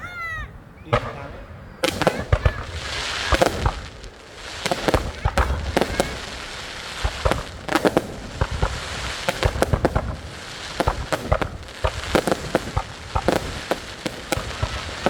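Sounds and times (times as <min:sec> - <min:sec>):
fireworks bangs and pops: 0:00.9 - 0:15.0
fireworks crackle: 0:00.9 - 0:15.0.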